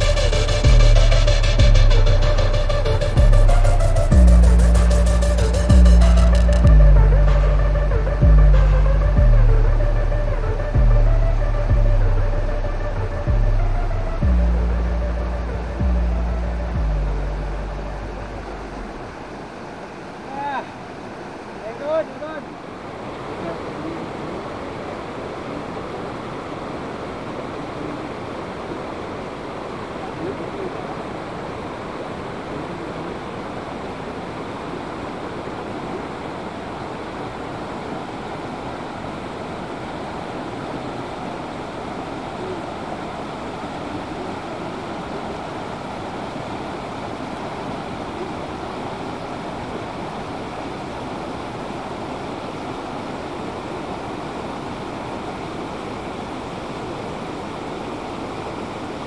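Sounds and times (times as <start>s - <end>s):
fast-flowing water rushing: 0.0s - 59.0s.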